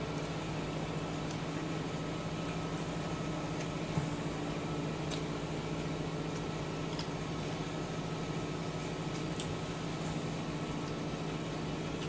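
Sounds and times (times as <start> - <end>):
low hum with faint whine: 0.0 - 12.0.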